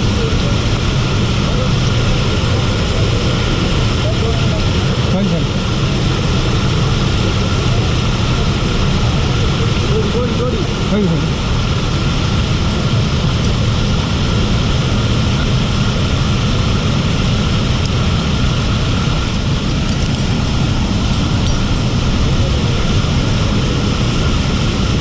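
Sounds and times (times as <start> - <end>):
rushing waterfall roar: 0.0 - 25.0.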